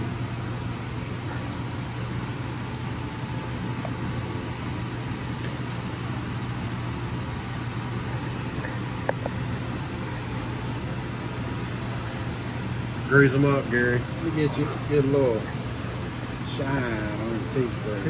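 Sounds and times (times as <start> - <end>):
shop equipment humming: 0.0 - 18.0.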